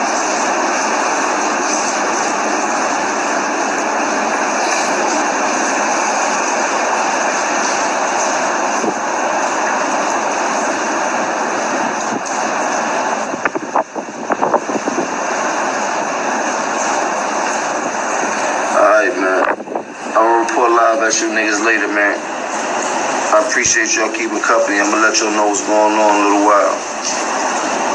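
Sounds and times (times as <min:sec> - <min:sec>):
strong wind rushing: 0:00.1 - 0:24.2.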